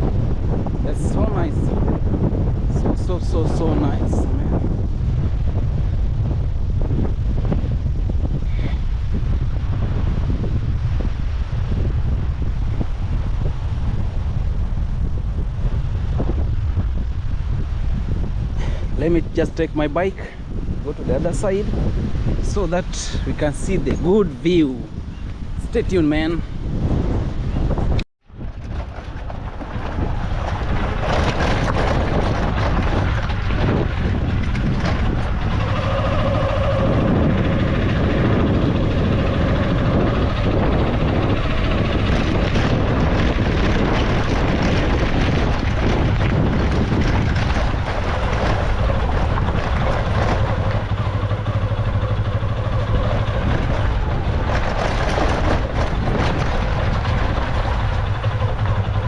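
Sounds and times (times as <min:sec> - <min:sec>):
motorcycle engine hum: 0:00.0 - 0:59.0
wind rushing over microphone: 0:00.0 - 0:59.0.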